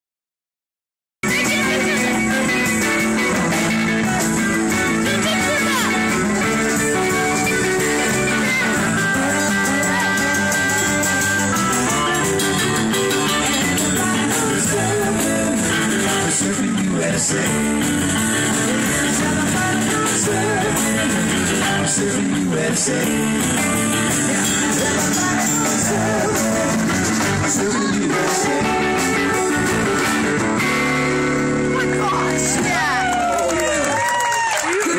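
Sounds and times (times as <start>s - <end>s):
person singing: 1.2s - 3.7s, 4.7s - 30.2s
rock and roll band playing: 1.2s - 34.9s.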